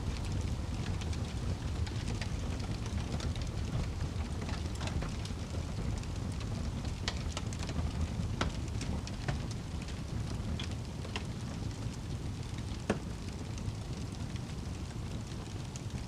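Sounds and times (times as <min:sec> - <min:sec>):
logs crackling and popping: 0:00.0 - 0:16.0
low rush of flames: 0:00.0 - 0:16.0.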